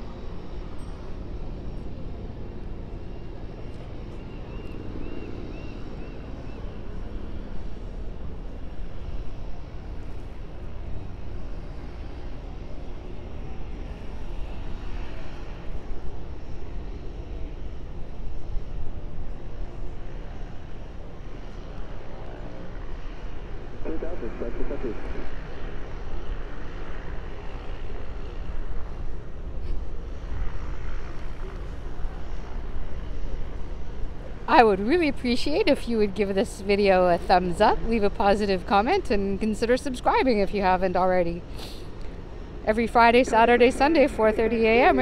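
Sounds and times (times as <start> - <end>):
turboprop engine droning: 0.0 - 45.0.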